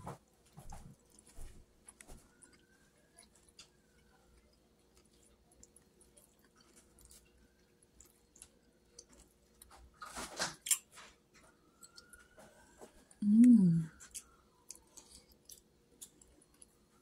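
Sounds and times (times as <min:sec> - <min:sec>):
chewing: 0:00.1 - 0:13.2, 0:13.9 - 0:17.0.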